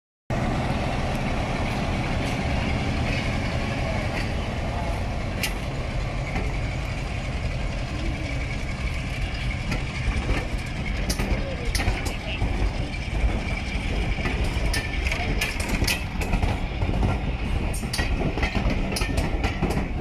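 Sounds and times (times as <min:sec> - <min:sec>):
diesel locomotive engine rumble: 0:00.3 - 0:20.0.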